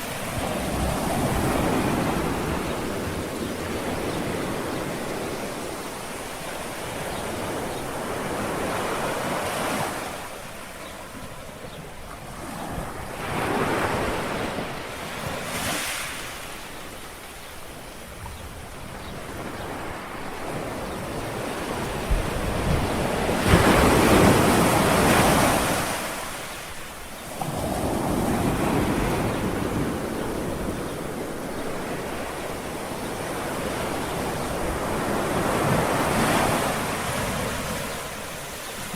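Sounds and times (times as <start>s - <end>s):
sea waves washing onto shore: 0.0s - 17.8s, 19.8s - 38.9s.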